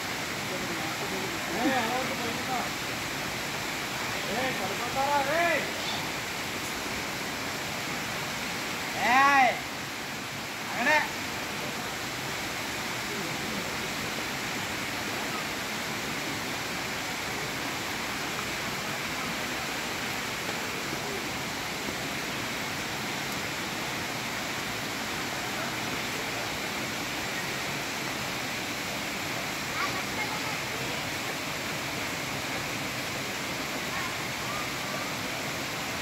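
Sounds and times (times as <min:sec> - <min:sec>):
waterfall rushing over rocks: 0:00.0 - 0:36.0.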